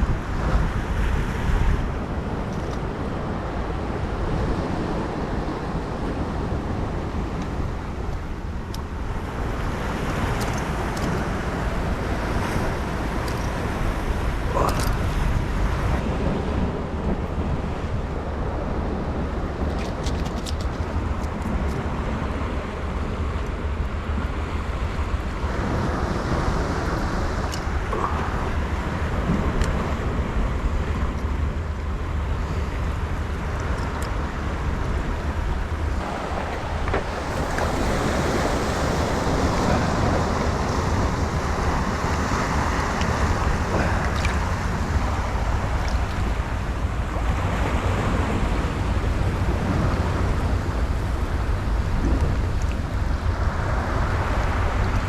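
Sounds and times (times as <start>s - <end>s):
sea waves: 0.0s - 55.0s
wind buffeting microphone: 0.0s - 55.0s.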